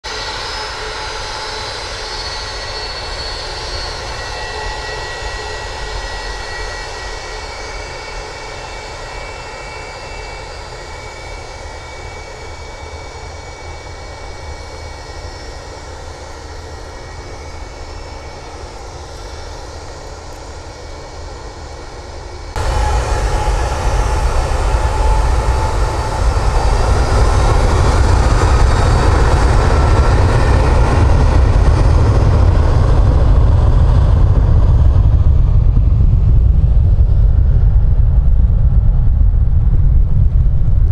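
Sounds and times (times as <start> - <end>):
deep jet engine rumble: 0.0 - 40.9
jet engines whining: 0.1 - 40.8.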